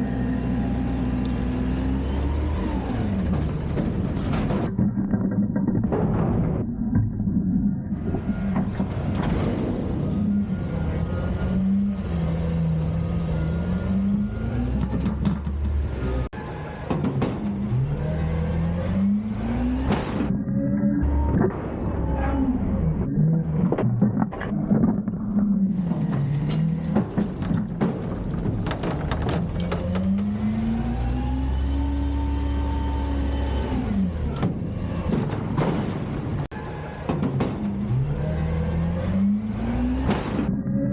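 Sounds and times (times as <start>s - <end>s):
garbage truck engine revving: 0.0s - 40.9s.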